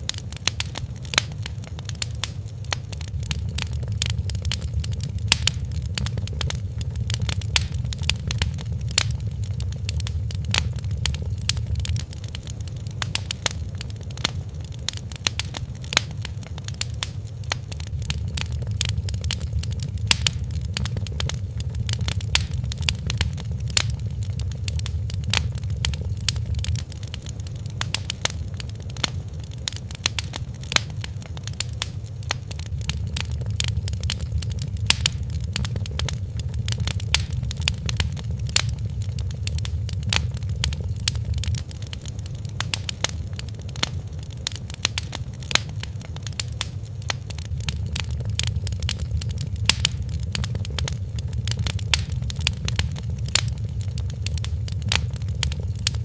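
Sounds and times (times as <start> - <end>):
fire crackling in a fireplace: 0.0 - 56.0.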